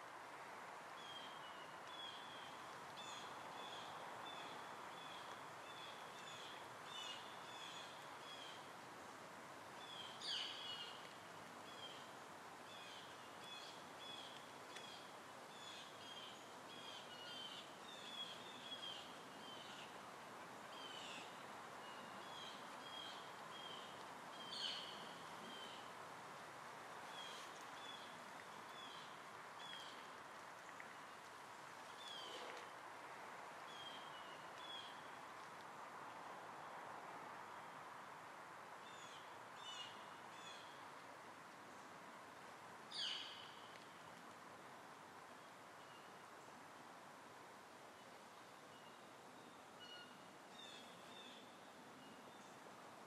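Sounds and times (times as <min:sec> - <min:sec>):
faint outdoor hiss: 0:00.0 - 0:53.0.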